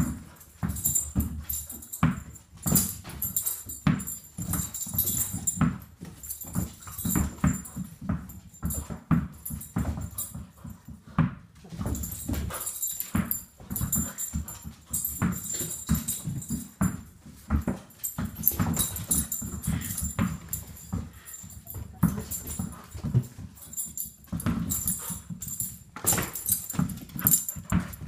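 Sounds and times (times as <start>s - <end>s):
balls bouncing on wooden floor: 0.0s - 28.0s.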